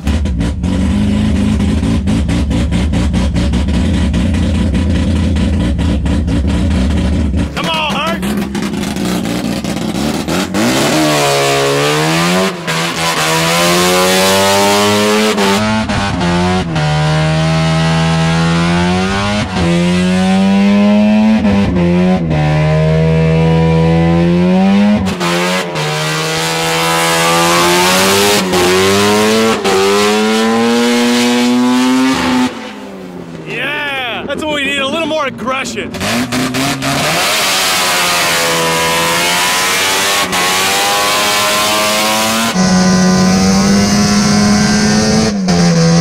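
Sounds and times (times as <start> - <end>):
rotary engine revving hard: 0.0 - 7.6, 8.2 - 33.4, 35.8 - 46.0.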